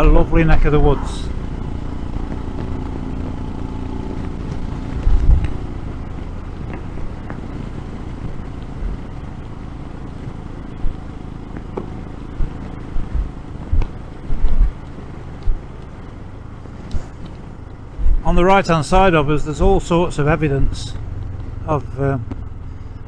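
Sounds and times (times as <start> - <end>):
low thumps: 0.0 - 23.0
motorcycle engine running: 0.0 - 23.0.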